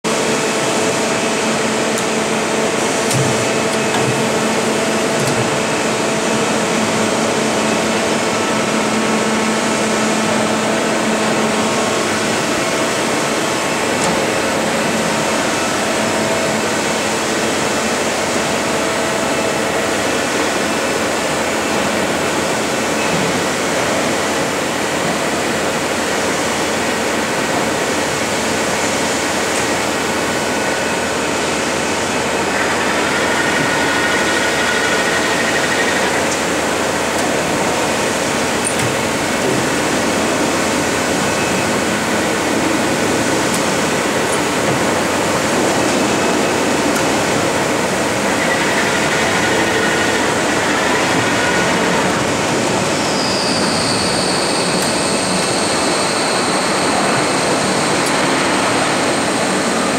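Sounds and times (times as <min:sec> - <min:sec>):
boring mill whirring: 0:00.1 - 0:26.1, 0:28.4 - 0:59.9.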